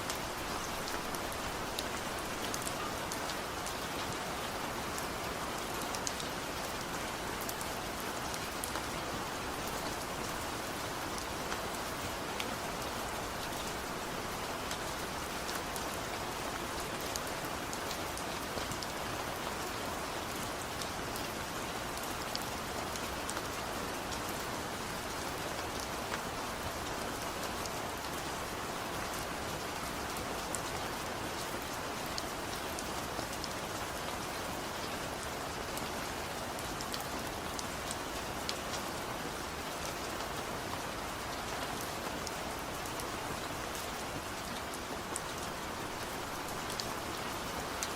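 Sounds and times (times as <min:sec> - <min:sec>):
gentle rain falling: 0:00.0 - 0:47.9.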